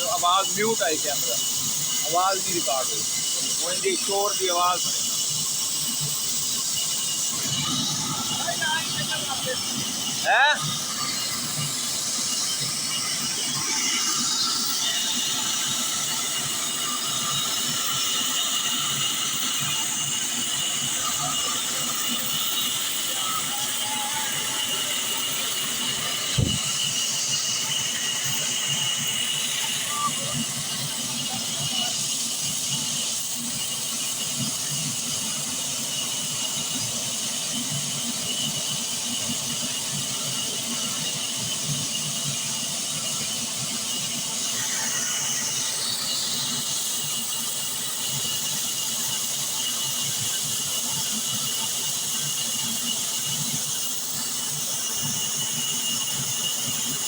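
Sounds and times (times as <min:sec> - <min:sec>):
machine running with whine: 0:00.0 - 0:57.0.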